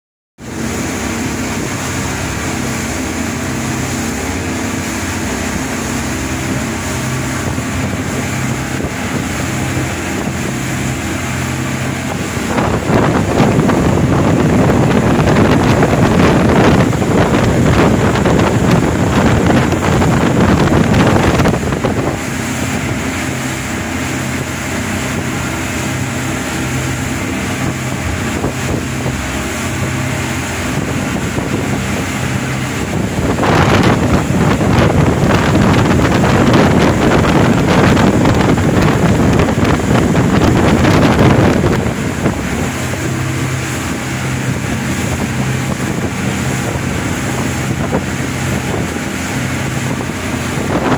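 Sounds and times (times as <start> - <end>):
motorboat engines droning: 0.4 - 50.9
rush of wind and water: 0.4 - 50.9.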